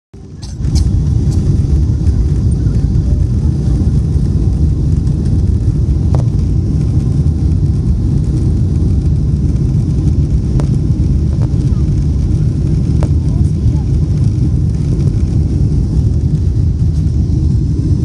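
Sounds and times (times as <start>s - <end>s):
jet engines roaring: 0.2s - 18.0s
runway rumble: 0.2s - 18.0s.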